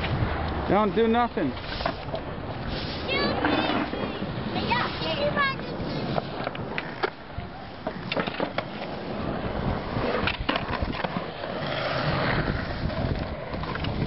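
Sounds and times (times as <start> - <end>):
skateboard wheels rolling on asphalt: 0.0 - 14.0
skateboard clacking on ground: 1.5 - 14.0.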